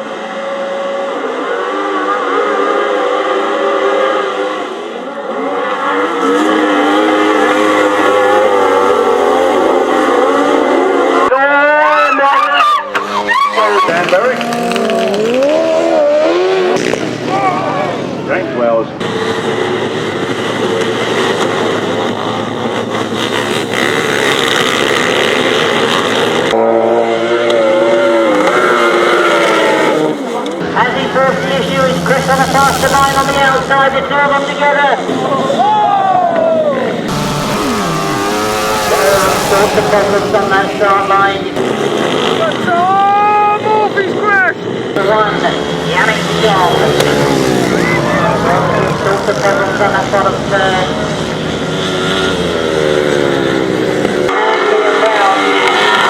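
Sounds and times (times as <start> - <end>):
racing motorcycle engines revving: 0.0 - 56.0.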